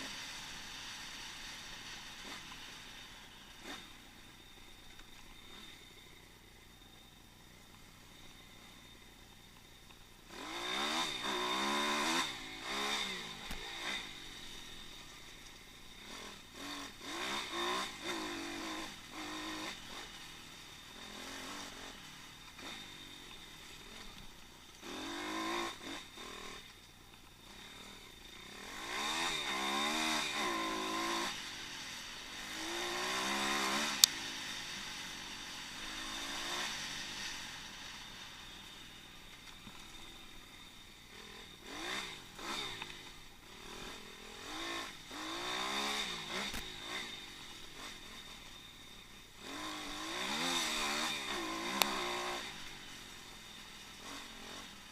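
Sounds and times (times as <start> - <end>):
motorbike engine revving: 0.0 - 6.0, 10.2 - 26.7, 27.3 - 54.9.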